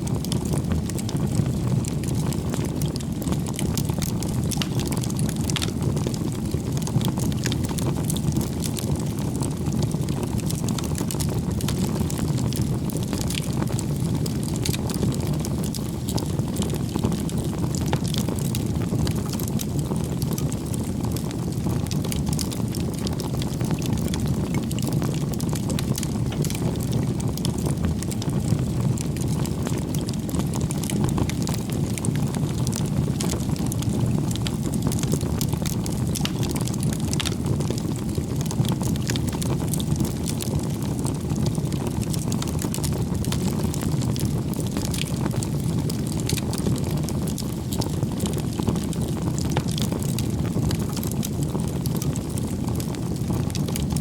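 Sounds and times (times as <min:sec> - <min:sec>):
burning wood crackling and popping: 0:00.0 - 0:54.0
rumble of bonfire flames: 0:00.0 - 0:54.0.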